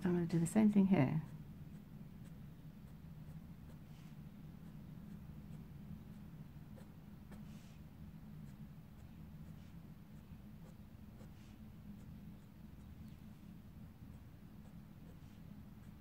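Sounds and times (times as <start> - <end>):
low steady hum: 0.0 - 16.0
pen scratching on paper: 1.3 - 13.0, 14.1 - 16.0.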